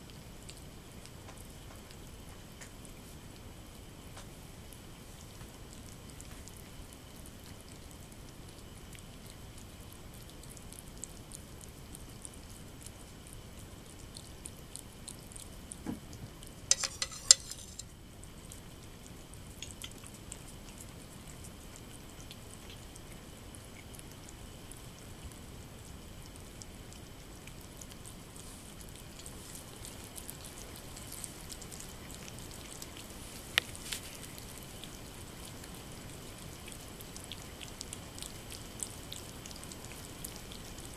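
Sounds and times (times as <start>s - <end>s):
kittens lapping and chewing: 0.0s - 40.9s.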